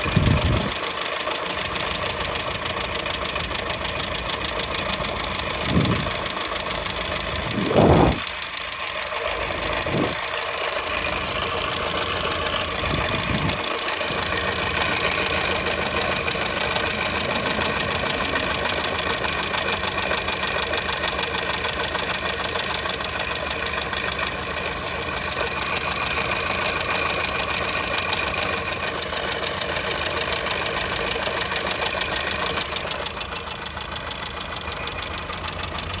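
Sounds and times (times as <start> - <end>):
car engine knocking: 0.0 - 36.0.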